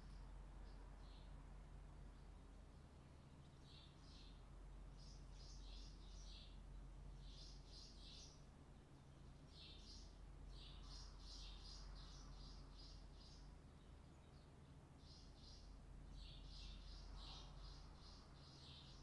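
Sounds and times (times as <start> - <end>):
faint bird chirping: 0.0 - 19.0
low steady hum: 0.0 - 19.0.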